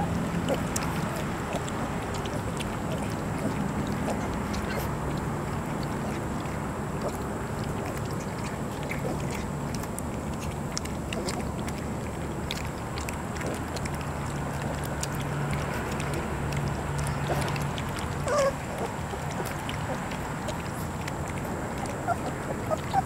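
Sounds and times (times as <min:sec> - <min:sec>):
puppies lapping and slurping: 0:00.0 - 0:23.0
steady low hum: 0:00.0 - 0:23.0.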